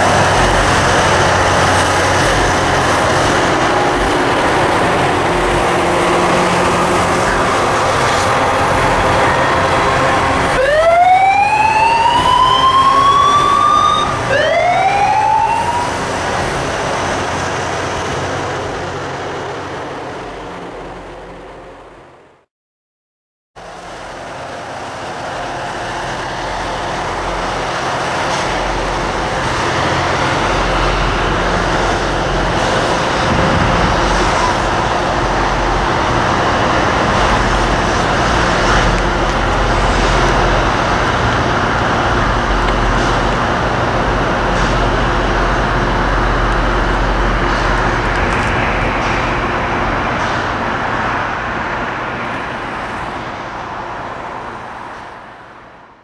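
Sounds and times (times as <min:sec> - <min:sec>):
rail grinder grinding roar: 0:00.0 - 0:22.4, 0:23.6 - 0:56.0
diesel engines droning: 0:00.0 - 0:22.5, 0:23.6 - 0:56.0.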